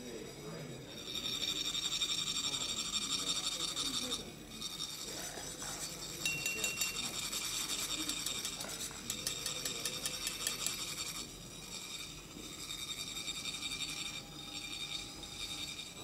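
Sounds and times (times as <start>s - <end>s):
metal rod rasping ridged funnel: 0.0s - 16.0s.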